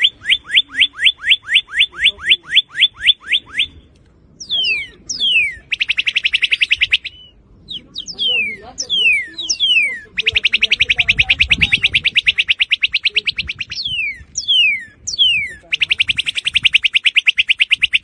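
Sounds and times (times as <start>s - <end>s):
bird singing whistled notes: 0.0s - 18.0s.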